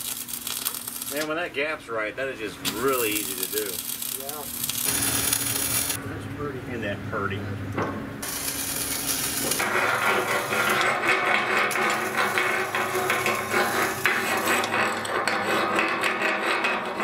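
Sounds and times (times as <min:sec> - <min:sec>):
arc welding crackling: 0:00.0 - 0:01.6, 0:02.4 - 0:06.0, 0:08.2 - 0:17.0.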